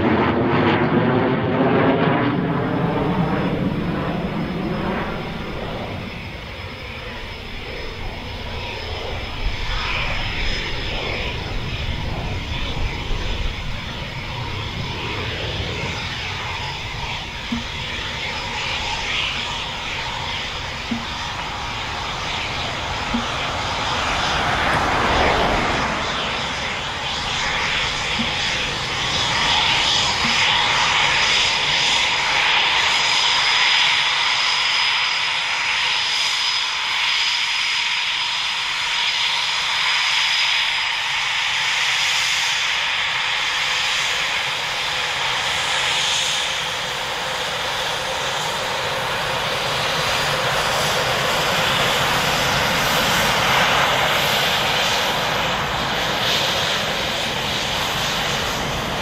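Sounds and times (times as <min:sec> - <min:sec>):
jet engine whine: 0:00.0 - 0:59.0.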